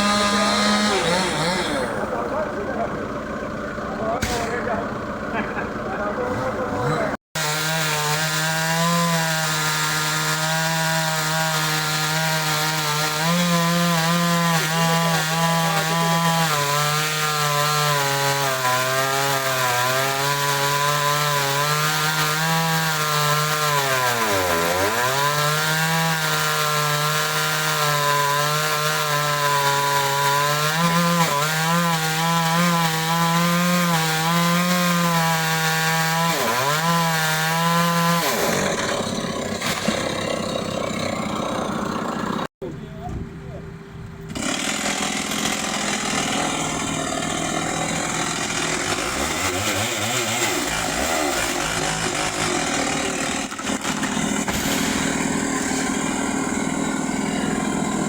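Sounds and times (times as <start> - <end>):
chainsaw cutting wood: 0.0 - 5.2, 5.8 - 42.5, 44.3 - 58.0.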